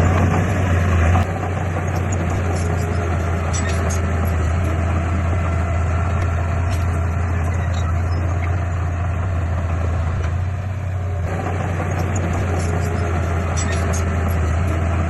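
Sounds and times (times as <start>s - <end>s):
heavy diesel engine under load: 0.0s - 15.0s.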